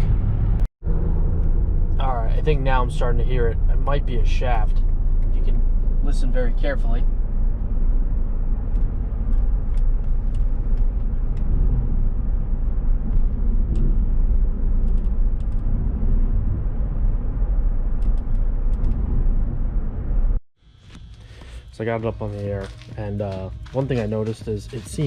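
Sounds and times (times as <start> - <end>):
road and drivetrain rumble: 0.0 - 25.0.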